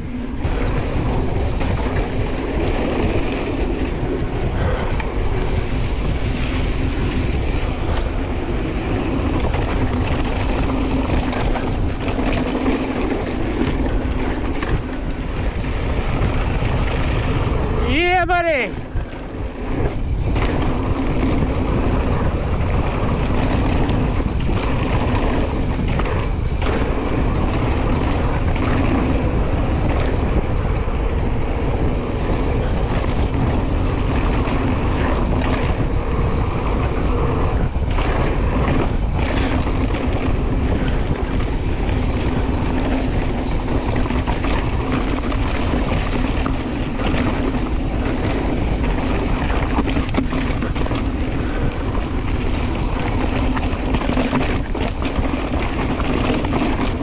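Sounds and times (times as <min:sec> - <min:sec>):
tyres rumbling over dirt trail: 0:00.0 - 0:57.0
wind rushing over microphone: 0:00.0 - 0:57.0.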